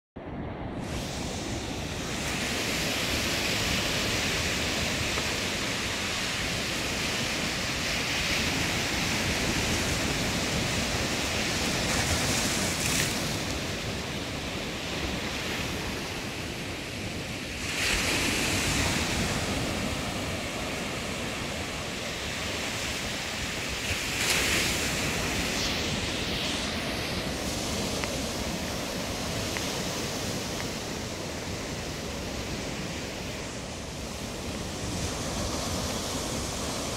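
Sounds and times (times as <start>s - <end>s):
surf breaking on shore: 0.4s - 36.9s.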